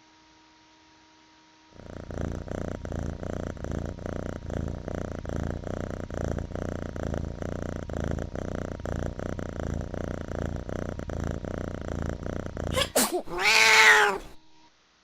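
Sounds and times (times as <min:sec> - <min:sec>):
faint electrical hum: 0:00.0 - 0:15.0
cat purring: 0:01.7 - 0:14.7.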